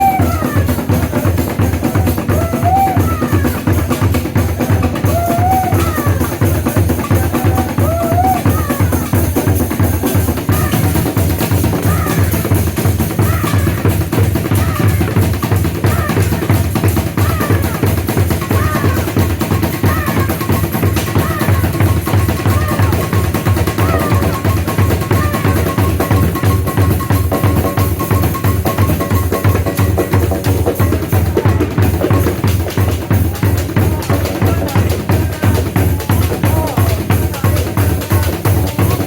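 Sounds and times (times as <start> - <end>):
fast drum rhythm: 0.0 - 39.0.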